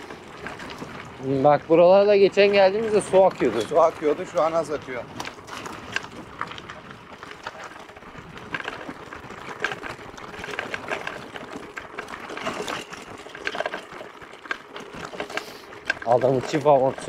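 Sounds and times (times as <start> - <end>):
bike tyres rumbling on dirt: 0.0 - 17.0.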